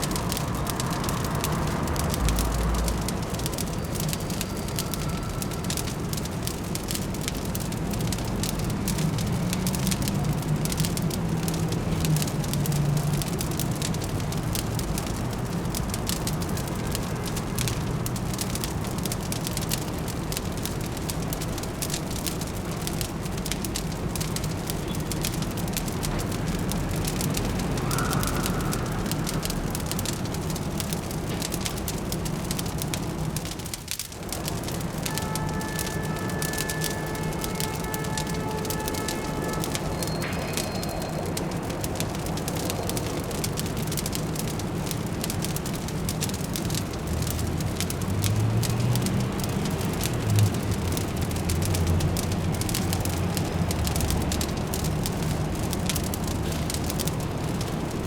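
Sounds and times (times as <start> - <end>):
fireplace crackling: 0.0 - 58.0
low city hum: 0.0 - 58.0.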